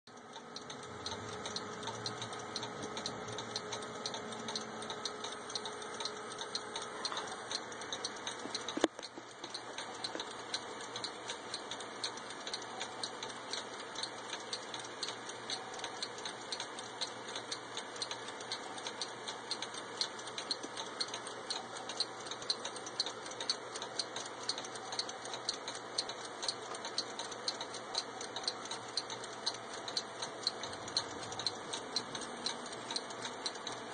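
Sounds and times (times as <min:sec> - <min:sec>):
mechanical clocks ticking: 0:00.1 - 0:33.9.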